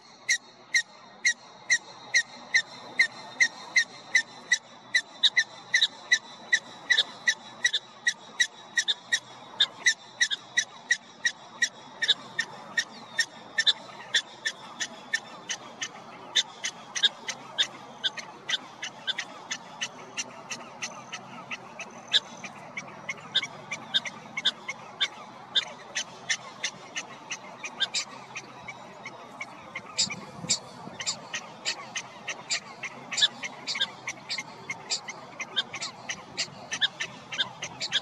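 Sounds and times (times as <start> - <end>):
prairie dog chirps: 1.7 - 38.0.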